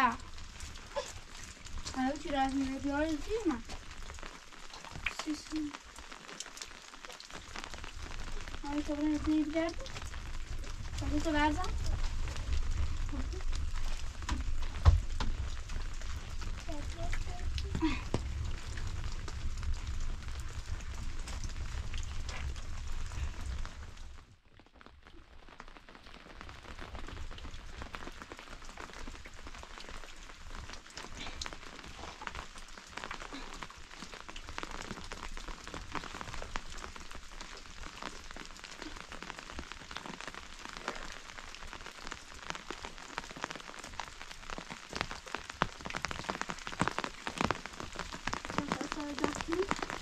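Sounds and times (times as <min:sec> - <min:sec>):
rain falling on rocks: 0:00.0 - 0:50.0
raindrops ticking: 0:00.0 - 0:50.0.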